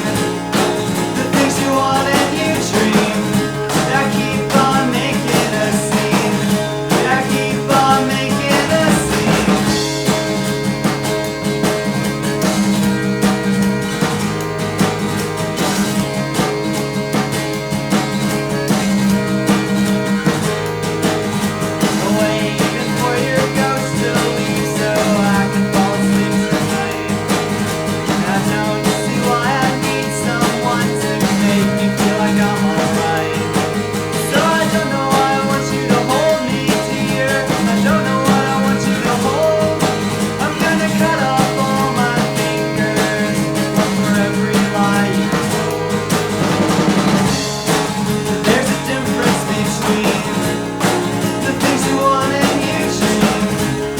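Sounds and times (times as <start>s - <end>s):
guitar-led instrumental rock: 0.0s - 53.9s.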